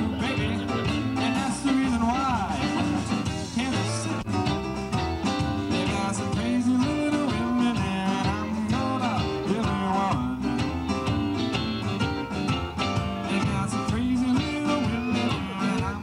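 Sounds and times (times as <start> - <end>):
drums: 0.0 - 16.0
electric keyboard: 0.0 - 16.0
guitar: 0.0 - 16.0
upright bass: 0.0 - 16.0.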